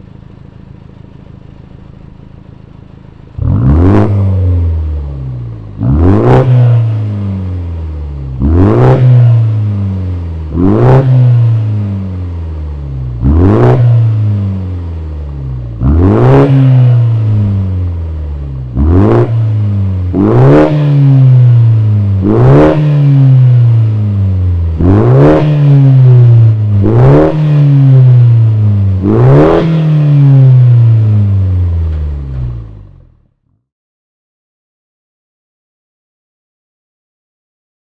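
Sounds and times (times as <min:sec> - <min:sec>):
car engine revving in blips: 0:00.0 - 0:33.3.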